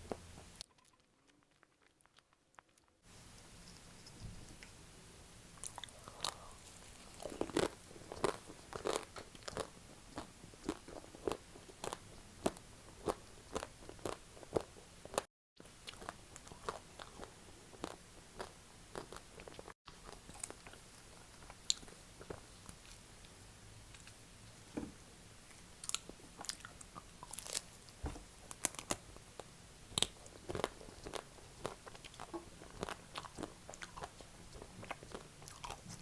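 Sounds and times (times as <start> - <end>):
crisp chewing crunches: 0.6 - 3.0, 5.6 - 23.0, 25.5 - 27.8, 28.5 - 36.0.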